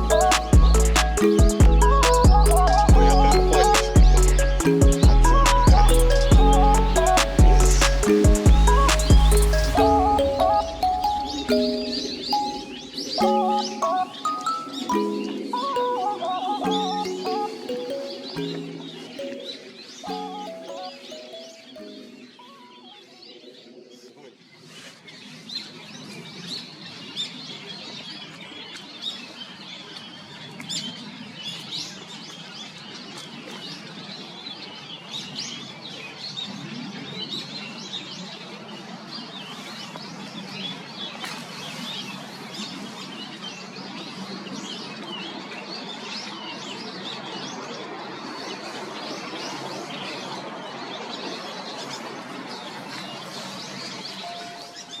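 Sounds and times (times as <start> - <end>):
flock of birds chirping: 0.0 - 55.0.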